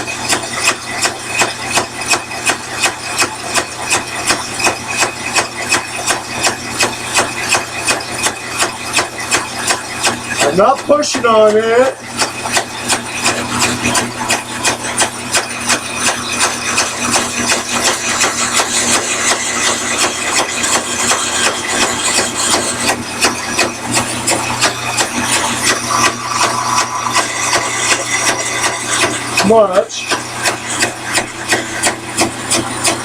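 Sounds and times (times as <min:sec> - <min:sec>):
bandsaw motor hum: 0:00.0 - 0:33.0.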